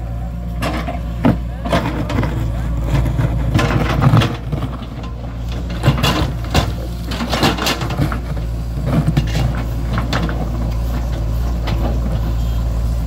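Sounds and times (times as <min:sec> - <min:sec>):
heavy diesel engine under load: 0:00.0 - 0:13.0.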